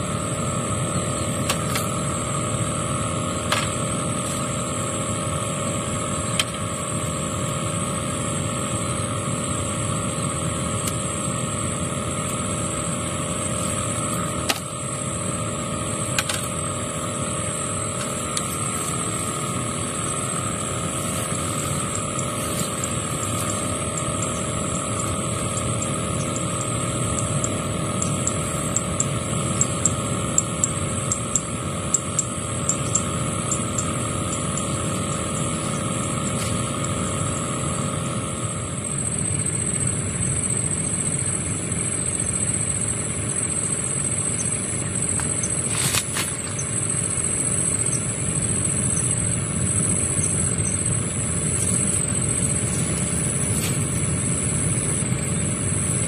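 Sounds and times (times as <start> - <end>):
constant high whine: 0.0 - 56.0
motor humming: 0.0 - 56.0.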